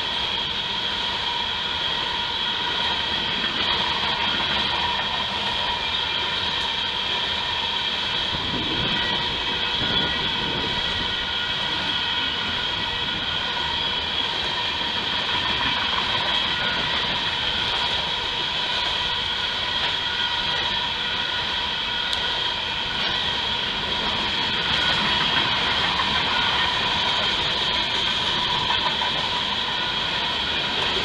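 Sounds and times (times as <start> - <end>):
freight train rumble and clatter: 0.0 - 31.0
steady high-pitched tones: 0.0 - 31.0.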